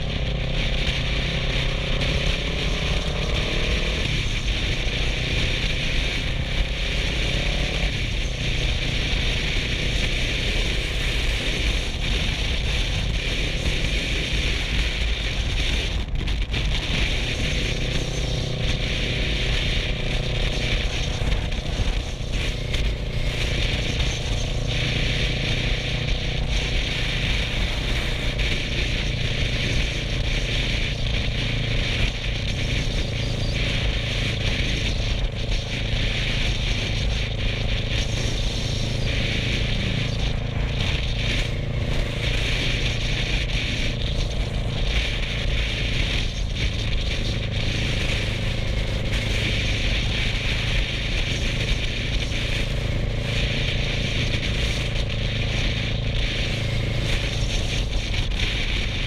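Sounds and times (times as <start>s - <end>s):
motorcycle engine cruising: 0.0s - 59.0s
road noise: 0.0s - 59.0s
wind rush: 0.0s - 59.0s.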